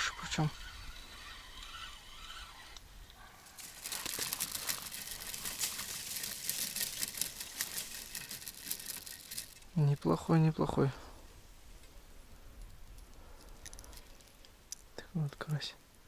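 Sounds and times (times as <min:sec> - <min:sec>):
grass rustling and crackling: 0:00.0 - 0:16.0.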